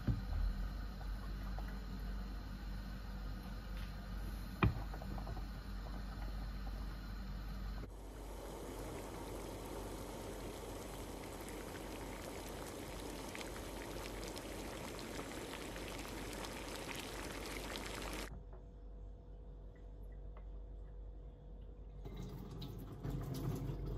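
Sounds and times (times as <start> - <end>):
water boiling in a pot: 0.0 - 18.3, 22.0 - 23.9
faint steady hum: 0.0 - 23.9.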